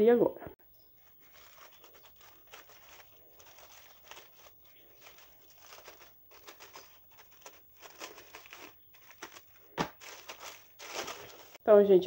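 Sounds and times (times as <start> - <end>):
plastic crinkling: 0.8 - 11.6.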